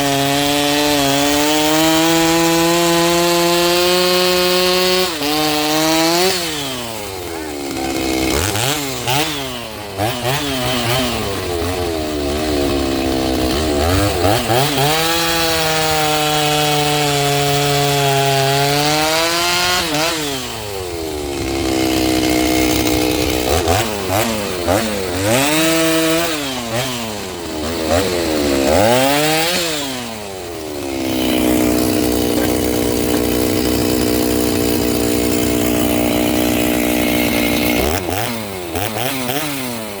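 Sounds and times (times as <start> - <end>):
chainsaw revving: 0.0 - 40.0.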